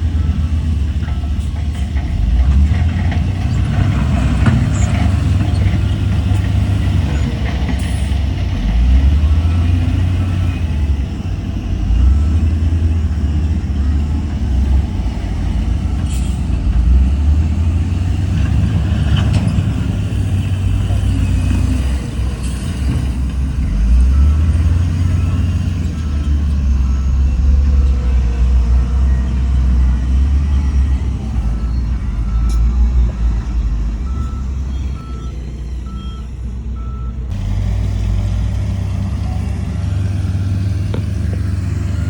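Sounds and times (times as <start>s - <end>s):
heavy diesel machinery engine drone: 0.0s - 42.0s.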